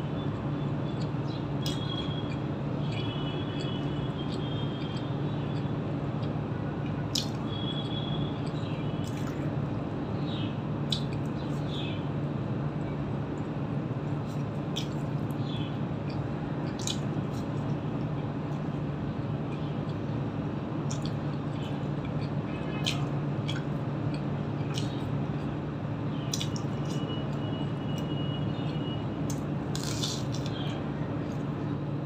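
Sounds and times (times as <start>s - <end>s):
low steady hum: 0.0s - 32.0s
person eating by hand: 0.1s - 9.7s, 10.8s - 11.8s, 12.8s - 31.8s.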